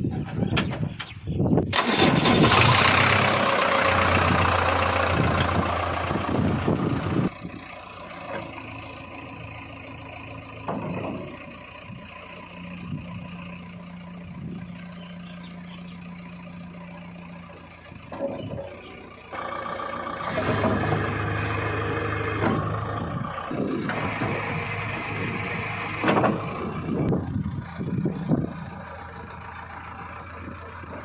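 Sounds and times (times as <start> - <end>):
diesel engine starting and running: 0.0 - 31.0.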